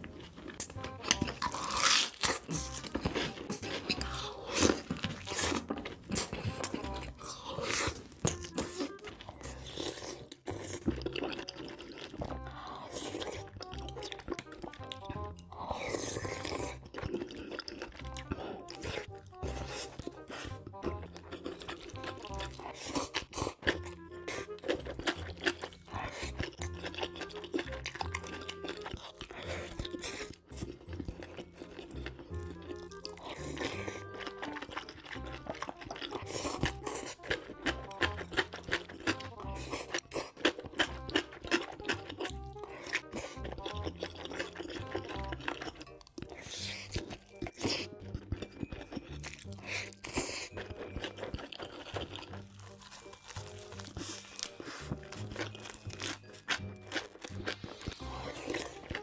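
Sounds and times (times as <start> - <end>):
crisp crunching bites: 0.0 - 59.0
quiet background music: 0.0 - 59.0.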